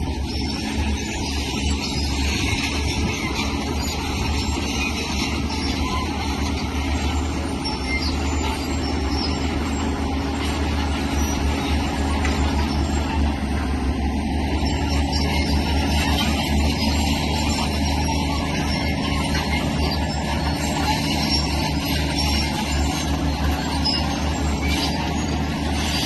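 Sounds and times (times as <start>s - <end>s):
heavy machinery diesel engine rumbling: 0.0s - 26.0s.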